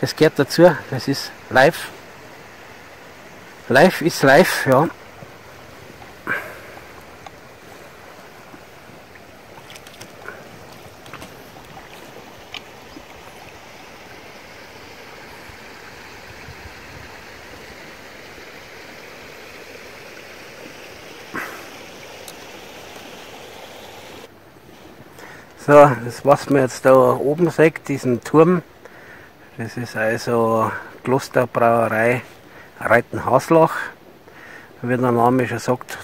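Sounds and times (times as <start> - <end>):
river water hissing: 0.0 - 36.0.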